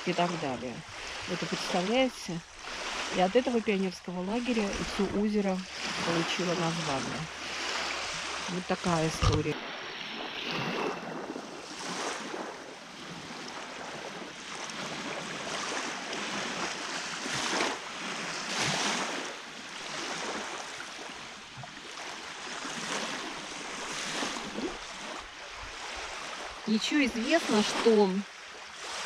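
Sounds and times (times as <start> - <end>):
lake waves washing ashore: 0.0 - 29.0.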